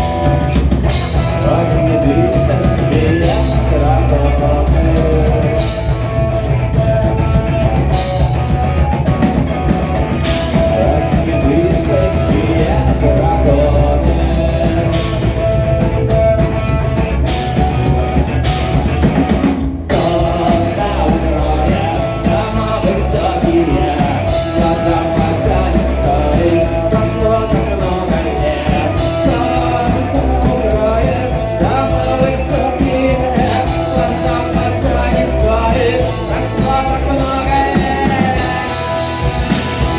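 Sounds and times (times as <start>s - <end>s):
rock music with singer and drums: 0.0s - 39.9s.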